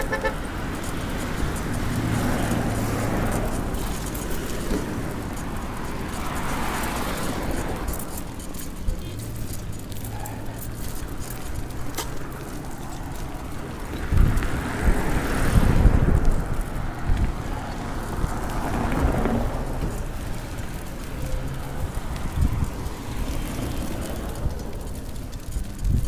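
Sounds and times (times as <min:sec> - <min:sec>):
car passing by: 0:00.0 - 0:26.0
wind rumbling on microphone: 0:00.0 - 0:26.0.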